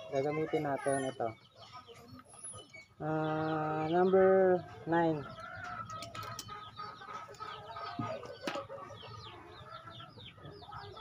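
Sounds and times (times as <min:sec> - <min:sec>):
birds chirping: 0:00.0 - 0:11.0
chickens clucking: 0:00.0 - 0:11.0.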